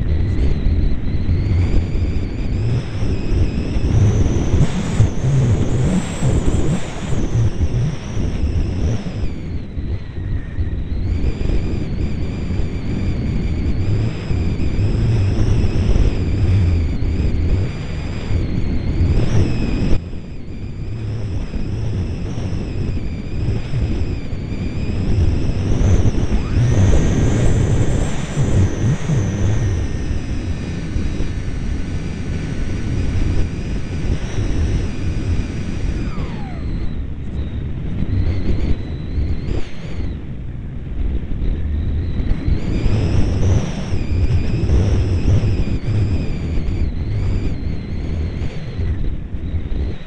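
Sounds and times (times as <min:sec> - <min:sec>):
high motor whine: 0:00.0 - 0:50.0
wind buffeting microphone: 0:00.0 - 0:50.0.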